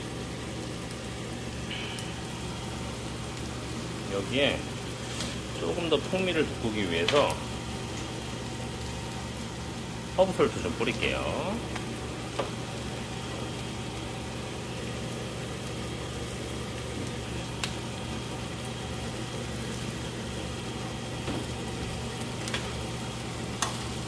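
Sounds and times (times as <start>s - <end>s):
low steady hum: 0.0s - 24.0s
meat sizzling in a pan: 0.0s - 24.0s.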